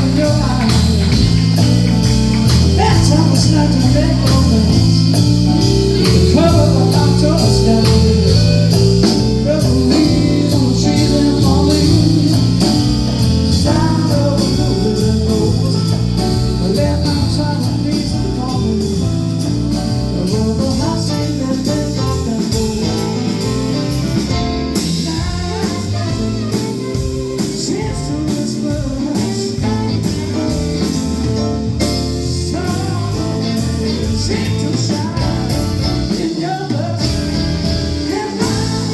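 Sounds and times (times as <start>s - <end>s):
person singing: 0.0s - 23.6s, 24.8s - 37.4s, 38.0s - 38.9s
drums: 0.0s - 38.9s
guitar: 0.0s - 38.9s
live blues band playing: 0.0s - 38.9s.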